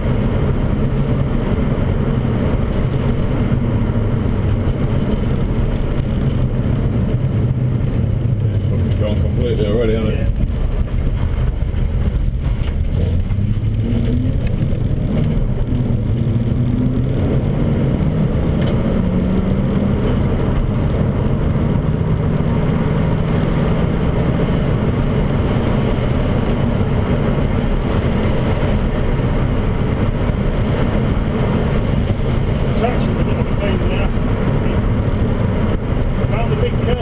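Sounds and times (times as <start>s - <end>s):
car engine accelerating: 0.0s - 37.0s
tyre noise on wet road: 0.0s - 37.0s.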